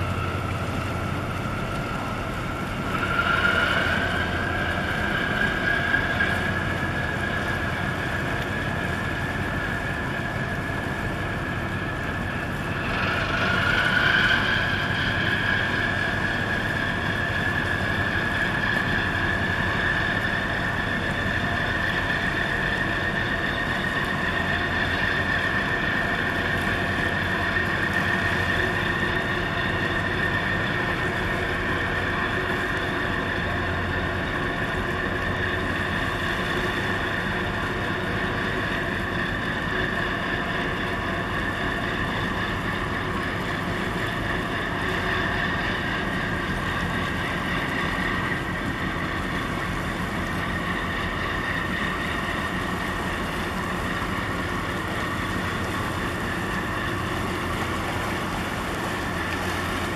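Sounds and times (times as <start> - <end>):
high engine whine: 0.0 - 59.9
tugboat engines rumbling: 0.0 - 59.9.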